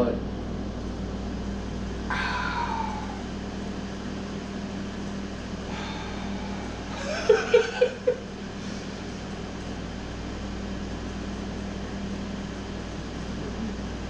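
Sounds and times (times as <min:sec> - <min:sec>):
machine hum with low tone: 0:00.0 - 0:14.0.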